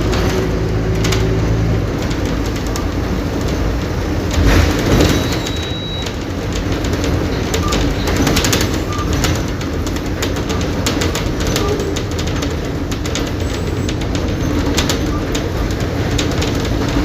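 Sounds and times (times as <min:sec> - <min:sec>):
bodywork rattling and clicking: 0:00.0 - 0:17.0
bus diesel engine running: 0:00.0 - 0:17.0.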